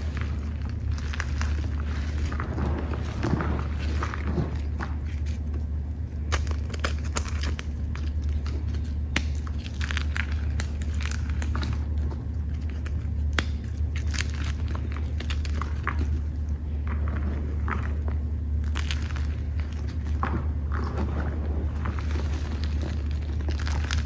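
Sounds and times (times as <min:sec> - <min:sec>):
chalk crunching and crumbling: 0:00.0 - 0:24.0
low hum: 0:00.0 - 0:24.0.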